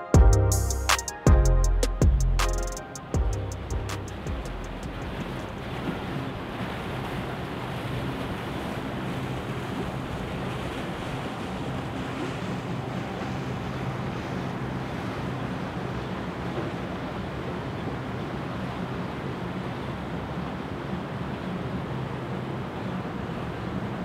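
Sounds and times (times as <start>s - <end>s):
motorboat engine hum: 0.0s - 24.0s
rushing bow wake water: 0.0s - 24.0s.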